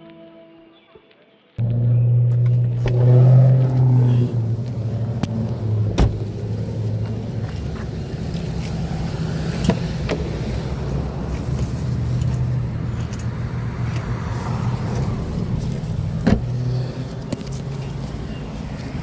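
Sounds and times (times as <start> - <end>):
vehicle engine droning: 1.6 - 19.0.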